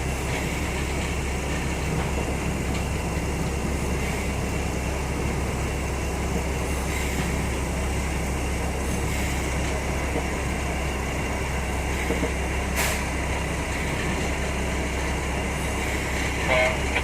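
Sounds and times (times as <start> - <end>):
train running with low hum: 0.0 - 17.0.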